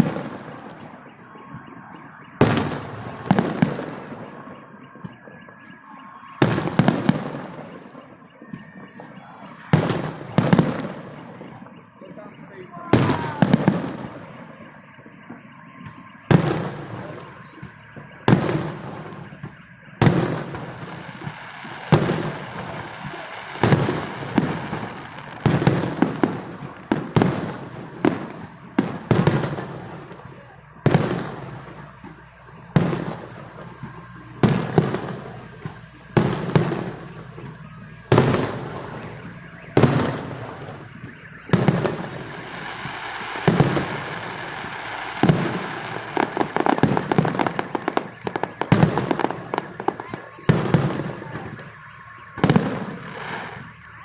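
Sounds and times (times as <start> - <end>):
fireworks bursting with crackle: 0.0 - 54.0.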